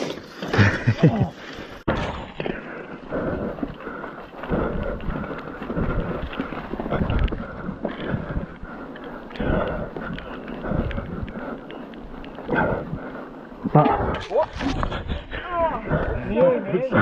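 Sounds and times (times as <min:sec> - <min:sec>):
bike tyres rolling on trail: 0:00.0 - 0:17.0
wind buffeting microphone: 0:03.1 - 0:17.0.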